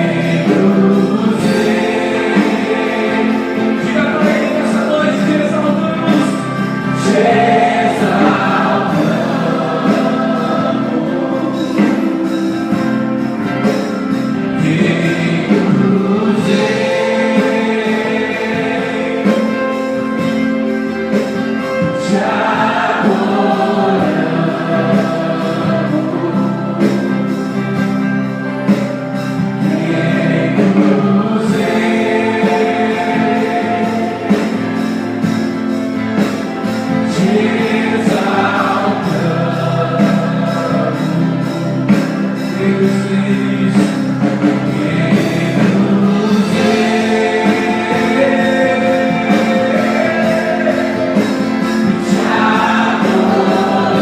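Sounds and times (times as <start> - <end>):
congregation singing gospel: 0.0 - 54.0.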